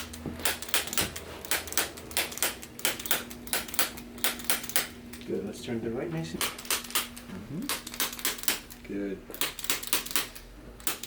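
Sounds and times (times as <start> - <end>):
rapid mechanical clicking: 0.0 - 5.4, 6.4 - 11.0
low steady hum: 0.0 - 11.0.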